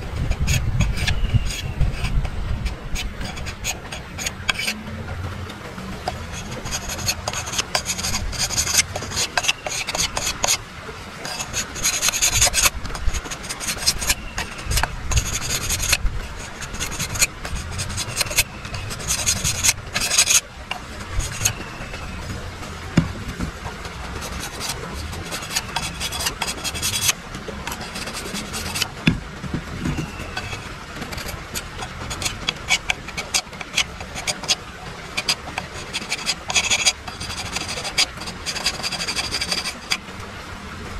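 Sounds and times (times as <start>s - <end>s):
knife scraping bamboo strip: 0.0s - 4.8s, 6.1s - 10.6s, 11.2s - 22.4s, 24.2s - 29.2s, 29.8s - 40.0s.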